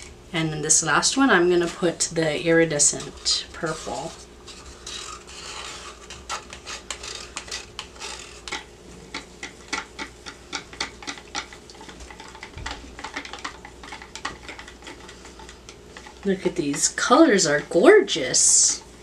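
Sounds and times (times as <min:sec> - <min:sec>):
sticks stirring in plastic pitchers: 0:01.1 - 0:19.0.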